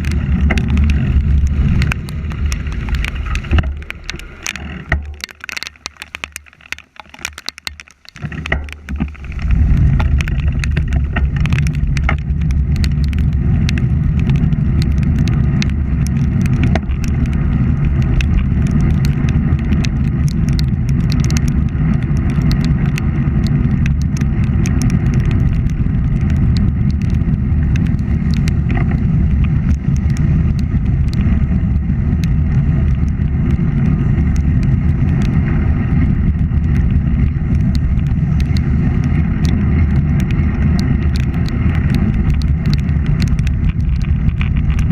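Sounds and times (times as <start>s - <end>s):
road and tyre noise: 0.0s - 44.9s
sharp ticks: 0.0s - 44.9s
wind rumble on microphone: 0.0s - 44.9s.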